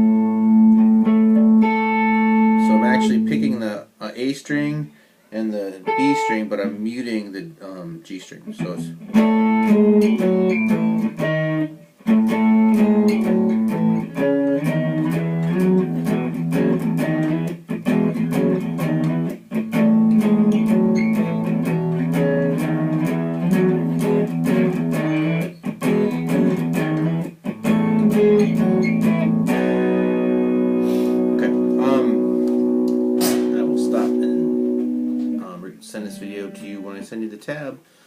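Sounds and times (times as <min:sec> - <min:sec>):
electric guitar riff picked: 0:00.0 - 0:03.7, 0:05.8 - 0:06.8, 0:08.6 - 0:37.1.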